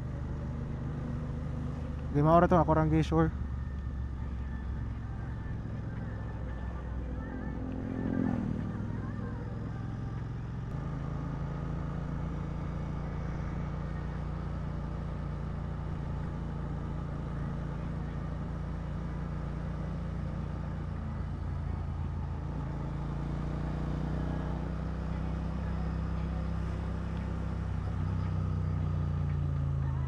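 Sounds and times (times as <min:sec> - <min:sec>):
motorcycle engine cruising: 0:00.0 - 0:30.0
road and wind noise: 0:00.0 - 0:30.0.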